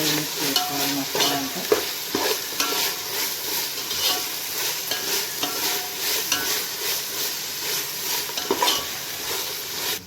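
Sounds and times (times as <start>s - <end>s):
paste frying in hot oil: 0.0s - 10.0s
utensil scraping pan: 0.0s - 10.0s.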